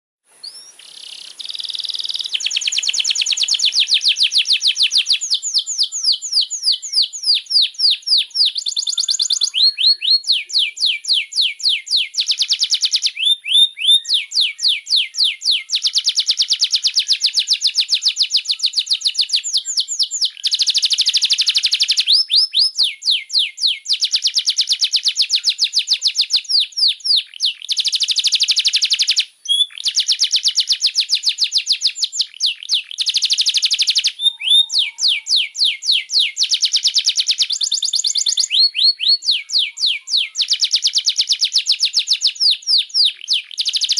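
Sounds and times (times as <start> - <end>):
canary singing trills: 0.4 - 43.9.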